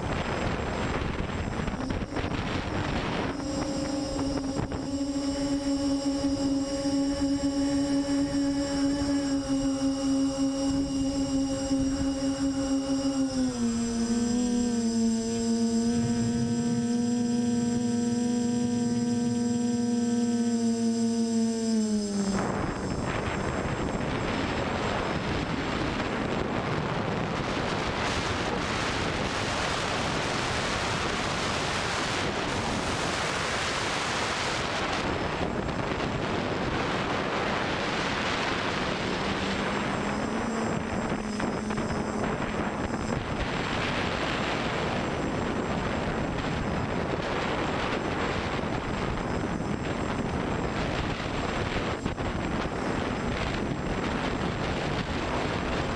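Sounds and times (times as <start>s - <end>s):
quadcopter propellers droning: 0.0s - 55.9s.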